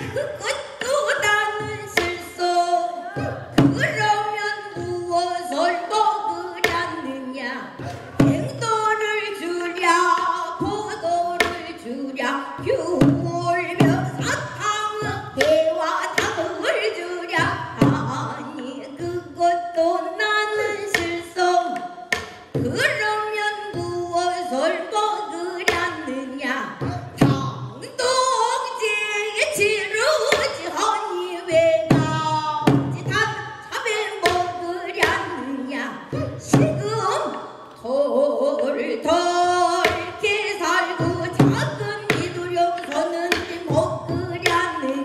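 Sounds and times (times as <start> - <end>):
barrel drum beats: 0.0 - 37.8, 38.6 - 45.0
woman singing: 0.0 - 45.0.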